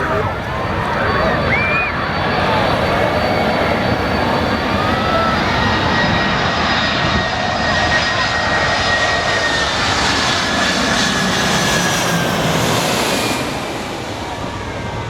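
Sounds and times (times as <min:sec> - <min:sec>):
jet engines rumbling with turbine whine: 0:00.0 - 0:15.0.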